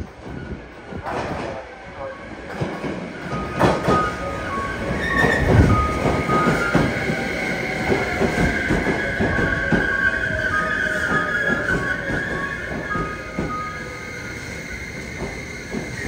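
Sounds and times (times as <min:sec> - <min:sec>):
train brakes squealing: 0:02.8 - 0:16.0.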